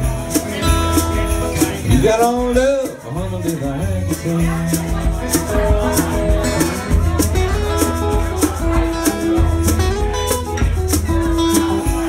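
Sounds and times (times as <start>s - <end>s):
percussion beat: 0.0s - 12.0s
strummed guitar chords: 0.0s - 12.0s.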